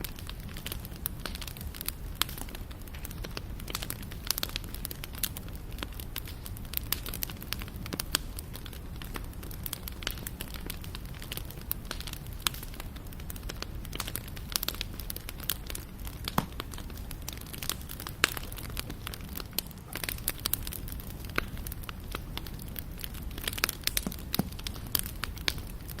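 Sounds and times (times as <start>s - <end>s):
burning wood popping and snapping: 0.0s - 26.0s
low rumble of flames: 0.0s - 26.0s.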